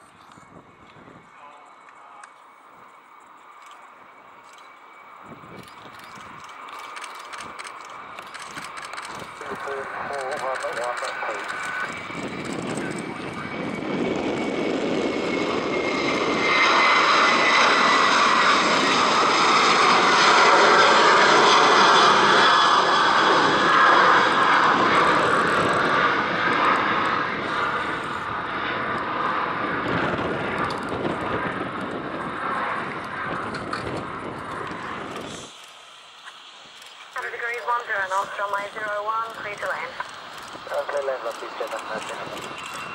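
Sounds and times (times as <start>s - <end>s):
jet engine roar and whine: 0.0s - 42.9s.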